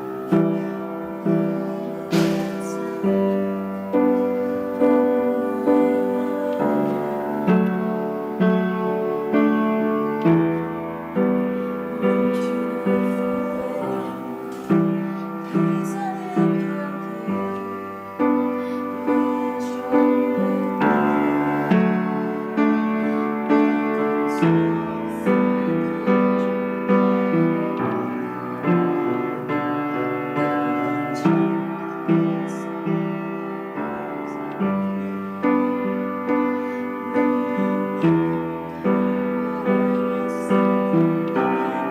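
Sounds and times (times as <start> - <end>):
piano playing slow chords: 0.0 - 41.9.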